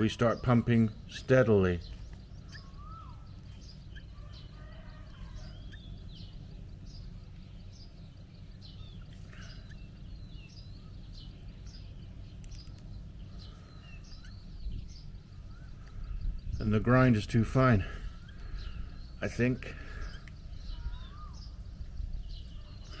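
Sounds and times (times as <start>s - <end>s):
birds chirping: 0.0s - 23.0s
low background rumble: 0.0s - 23.0s.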